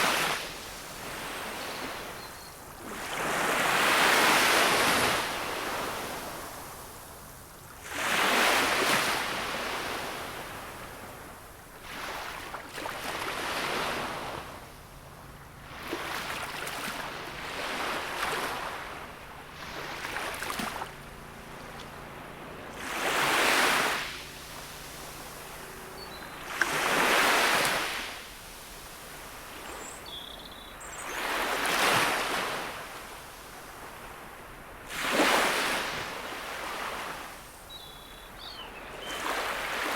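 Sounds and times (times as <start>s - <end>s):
sea waves breaking on shore: 0.0s - 37.7s, 38.5s - 39.9s.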